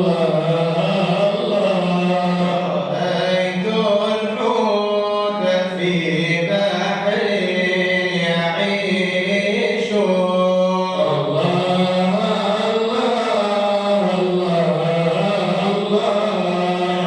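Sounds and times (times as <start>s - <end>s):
men chanting: 0.0s - 17.0s.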